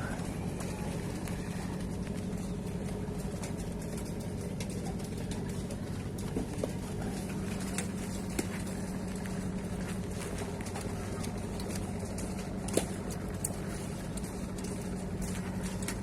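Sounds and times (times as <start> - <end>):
low motor hum: 0.0 - 16.0
small clicks and ticks: 0.0 - 16.0.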